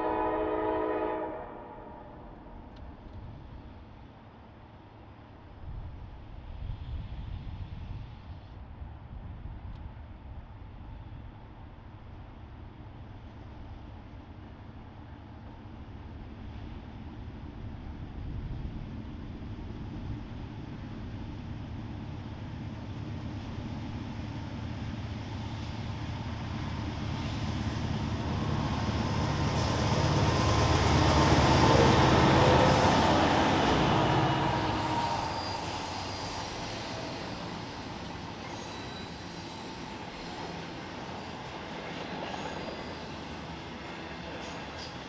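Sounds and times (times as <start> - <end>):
train passing on rails: 0.0 - 45.0.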